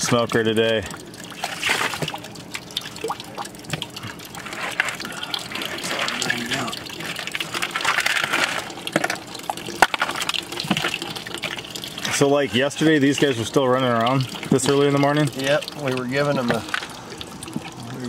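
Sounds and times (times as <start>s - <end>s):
small splashes and knocks: 0.0s - 12.4s, 14.0s - 18.0s.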